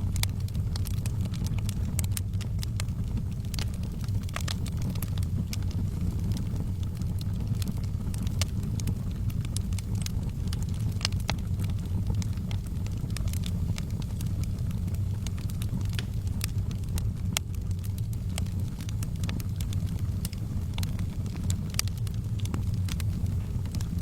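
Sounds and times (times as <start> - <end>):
fire crackling and popping: 0.0 - 24.0
fire rushing in fireplace: 0.0 - 24.0.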